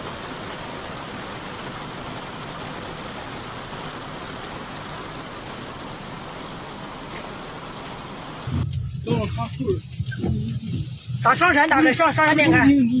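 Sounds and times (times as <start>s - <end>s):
heavy rain: 0.0s - 13.0s
wind: 0.0s - 13.0s.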